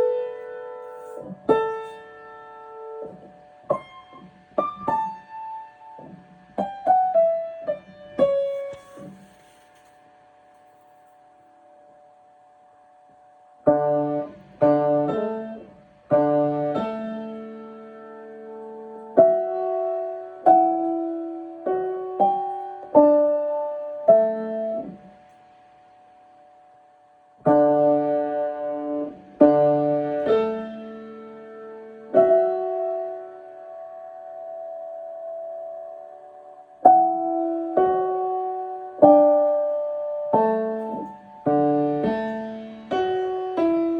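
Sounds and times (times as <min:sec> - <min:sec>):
piano playing: 0:00.0 - 0:09.9, 0:13.6 - 0:25.1, 0:27.4 - 0:43.9.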